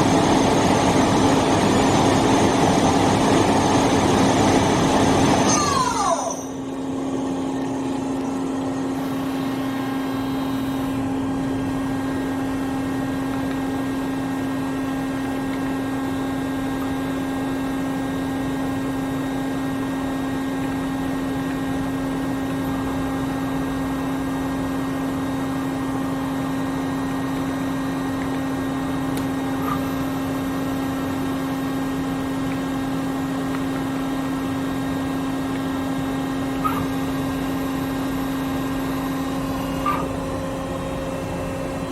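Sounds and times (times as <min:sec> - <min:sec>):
milling machine humming: 0:00.0 - 0:41.9.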